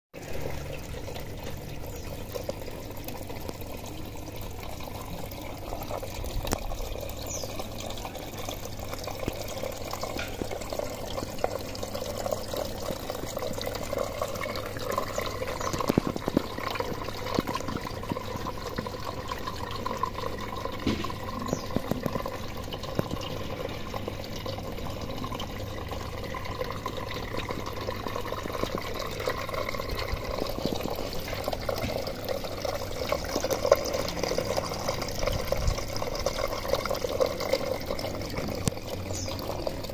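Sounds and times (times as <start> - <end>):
water trickling and splashing: 0.2 - 39.9.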